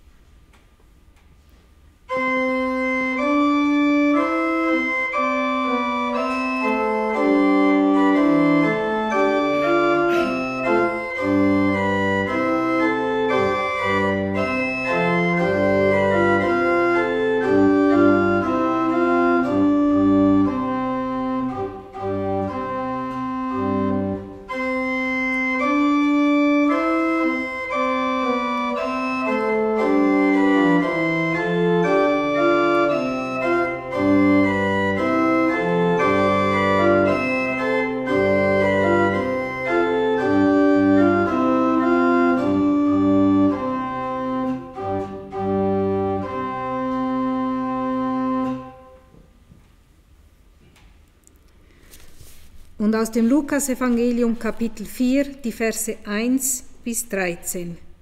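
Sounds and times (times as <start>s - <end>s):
pipe organ playing chords: 2.0s - 49.5s.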